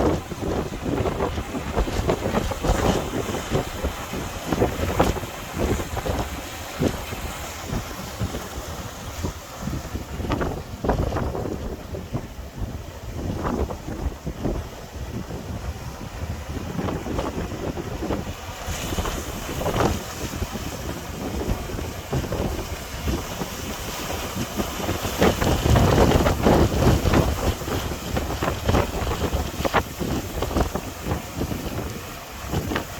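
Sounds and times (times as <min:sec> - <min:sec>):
rough surf: 0:00.0 - 0:32.9
wind buffeting microphone: 0:00.0 - 0:32.9.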